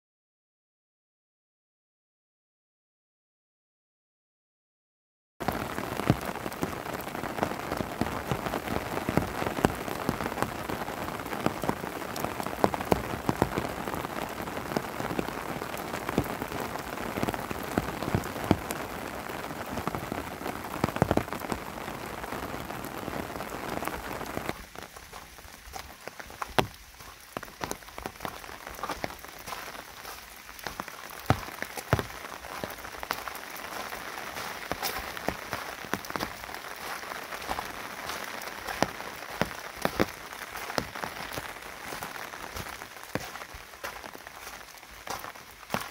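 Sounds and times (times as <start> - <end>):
rain falling in forest: 5.4 - 45.9
raindrop hits close by: 5.4 - 45.9.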